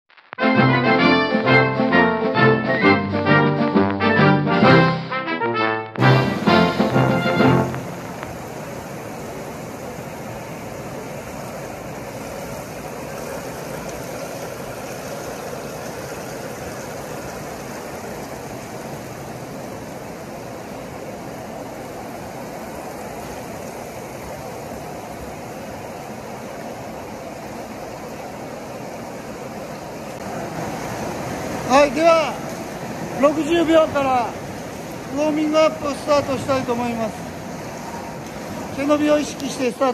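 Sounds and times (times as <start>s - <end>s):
indoor swimming pool ambience: 5.7s - 39.9s.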